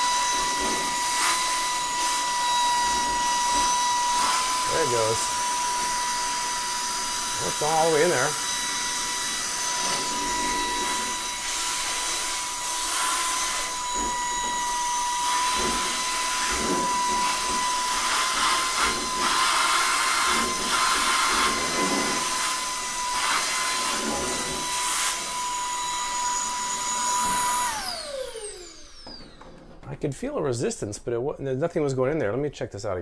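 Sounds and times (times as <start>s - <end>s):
vacuum cleaner whining: 0.0s - 29.9s.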